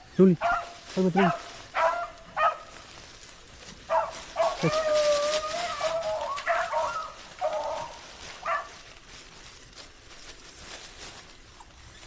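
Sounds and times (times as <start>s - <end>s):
beagles yelping: 0.0s - 8.9s, 9.5s - 12.0s.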